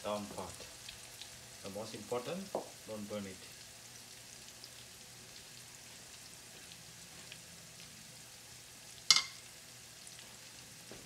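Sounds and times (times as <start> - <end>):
food frying in oil: 0.0 - 11.0.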